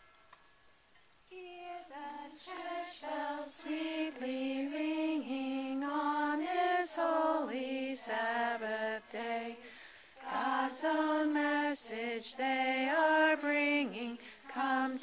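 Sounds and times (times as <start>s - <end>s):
person singing unaccompanied: 1.3s - 15.0s.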